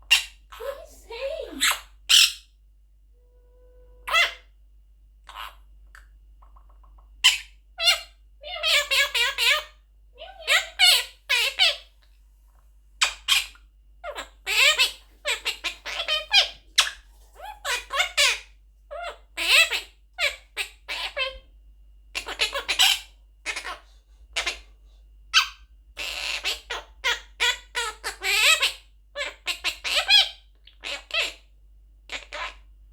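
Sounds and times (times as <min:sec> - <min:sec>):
parrot speech-like calls and squawks: 0:00.1 - 0:02.5, 0:03.2 - 0:04.5, 0:05.3 - 0:05.7, 0:06.4 - 0:11.9, 0:13.0 - 0:21.5, 0:22.1 - 0:24.7, 0:25.3 - 0:31.5, 0:32.1 - 0:32.7.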